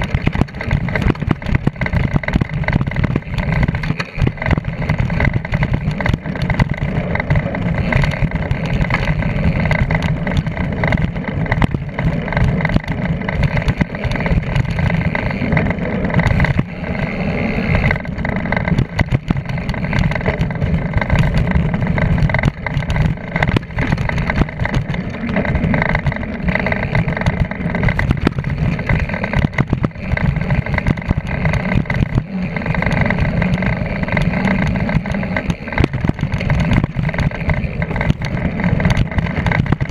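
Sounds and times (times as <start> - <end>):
bicycle rattling over dirt trail: 0.0 - 39.9.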